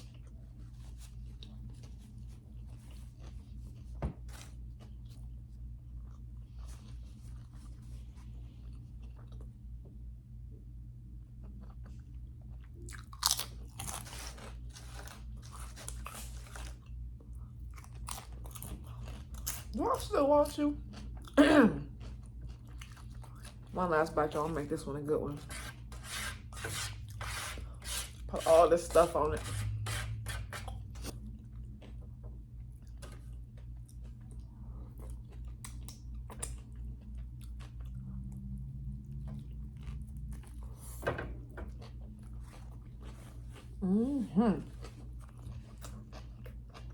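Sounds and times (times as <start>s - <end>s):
crunchy food chewing: 0.0s - 10.0s, 11.1s - 24.5s, 30.3s - 43.9s, 44.6s - 46.9s
steady low hum: 0.0s - 46.9s.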